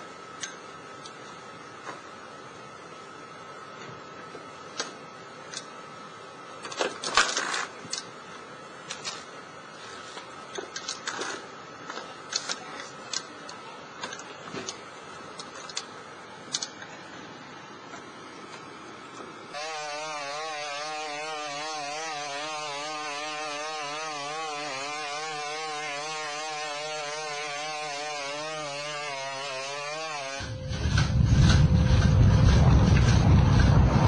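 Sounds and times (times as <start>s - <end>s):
faint high hum: 0.0s - 34.0s.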